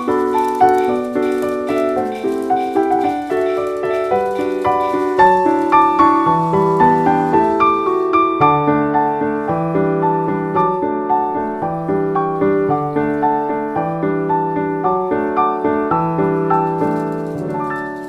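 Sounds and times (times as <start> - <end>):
calm piano music: 0.0 - 18.0.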